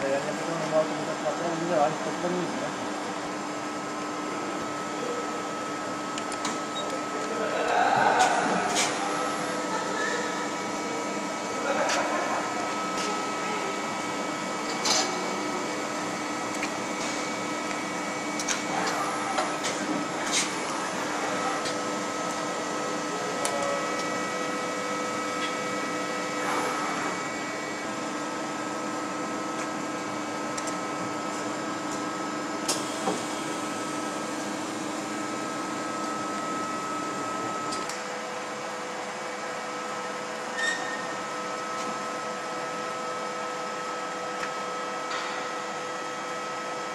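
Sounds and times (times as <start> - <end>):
lathe machine hum: 0.0 - 46.9.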